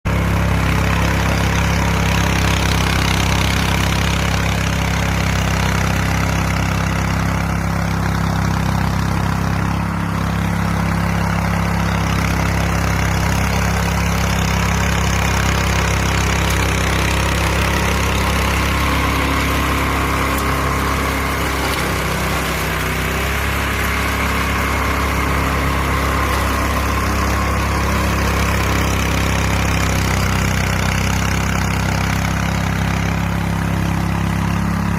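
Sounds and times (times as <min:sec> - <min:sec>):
small mower engine running: 0:00.0 - 0:34.9.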